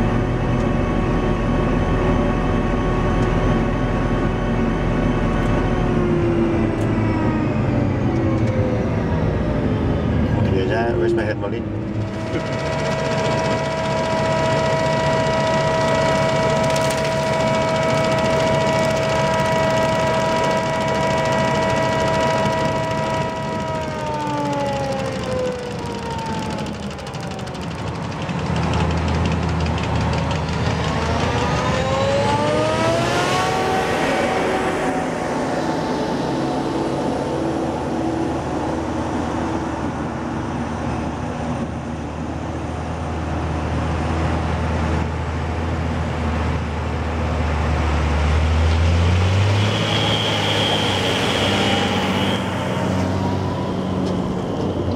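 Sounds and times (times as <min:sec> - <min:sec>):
harvester engine rumble: 0:00.0 - 0:54.9
high drive whine: 0:00.0 - 0:54.9.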